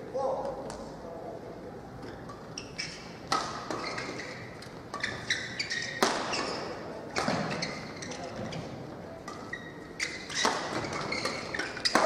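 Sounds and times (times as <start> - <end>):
shoes squeaking on court: 2.2 - 12.0.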